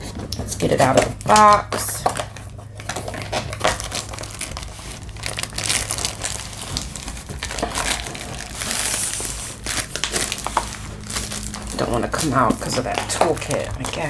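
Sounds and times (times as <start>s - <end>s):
plastic wrap crinkling: 0.0s - 14.0s
cardboard scraping: 2.1s - 14.0s.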